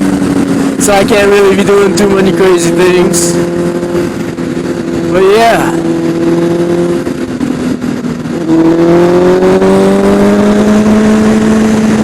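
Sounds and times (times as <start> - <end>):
motorcycle engine accelerating: 0.0 - 12.0
wind noise: 0.0 - 12.0.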